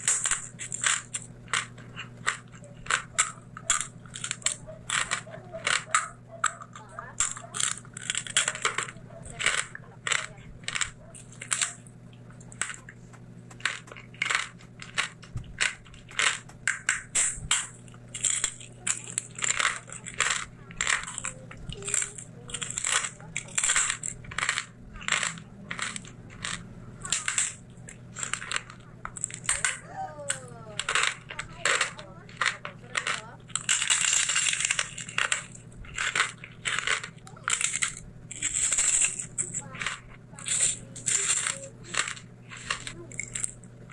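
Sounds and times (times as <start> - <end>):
chewing crunchy food: 0.0 - 43.9
faint low hum: 0.0 - 43.9.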